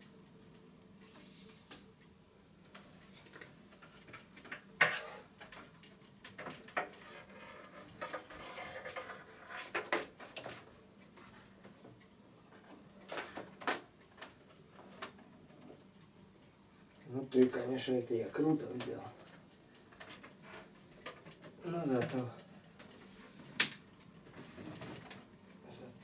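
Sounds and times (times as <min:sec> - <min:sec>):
cables and plugs clicking and rustling: 0:00.0 - 0:26.0.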